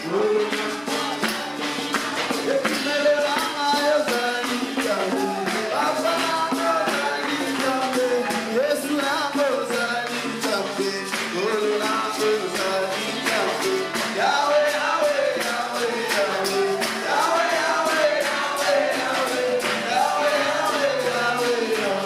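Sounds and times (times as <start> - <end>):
congregation singing: 0.0 - 22.0
hands clapping: 0.0 - 22.0
instrumental backing: 0.0 - 22.0
percussive beat: 0.0 - 22.0.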